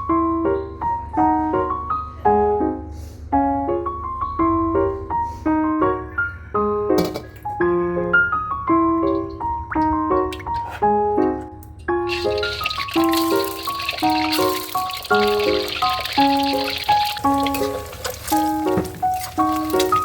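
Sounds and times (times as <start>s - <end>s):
bouncy piano melody: 0.0s - 20.0s.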